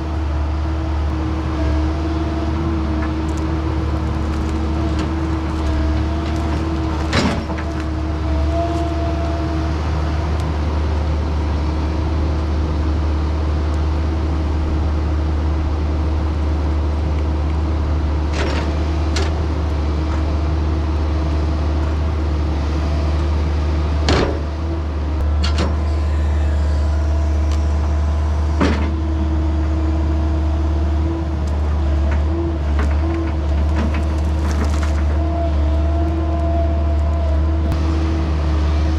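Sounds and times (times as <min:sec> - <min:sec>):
engine running under load: 0:00.0 - 0:38.9.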